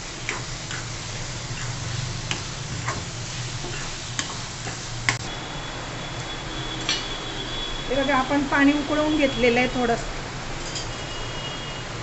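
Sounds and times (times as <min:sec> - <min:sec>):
masala sizzling in a pan: 0:00.0 - 0:09.6.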